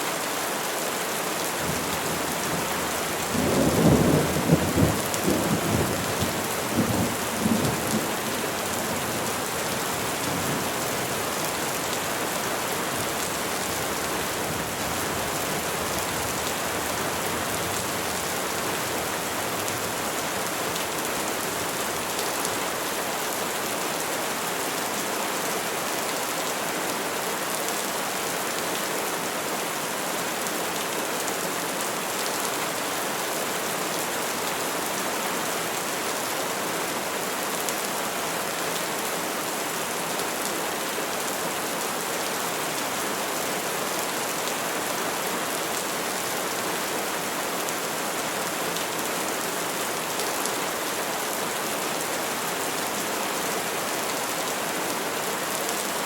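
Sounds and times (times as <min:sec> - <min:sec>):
rain pattering on leaves: 0:00.1 - 0:56.0.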